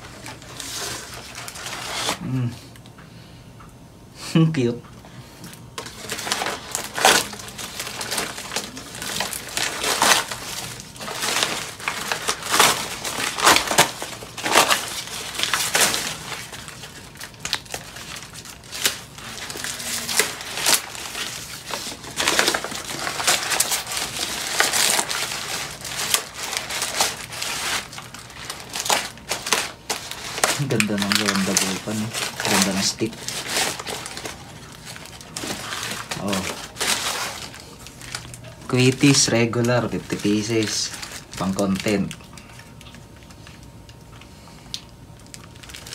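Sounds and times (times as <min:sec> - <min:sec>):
newspaper crinkling and rustling: 0:00.0 - 0:02.2, 0:05.7 - 0:45.9.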